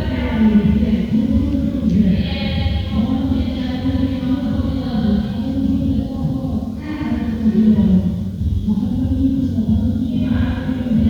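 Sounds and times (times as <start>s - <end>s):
chant-like singing: 0.0s - 11.0s
low accompaniment: 0.0s - 11.0s.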